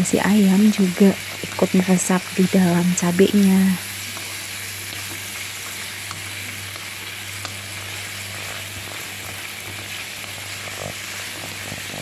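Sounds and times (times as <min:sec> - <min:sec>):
food sizzling in a pan: 0:00.0 - 0:12.0
chopsticks stirring in a pan: 0:00.3 - 0:12.0.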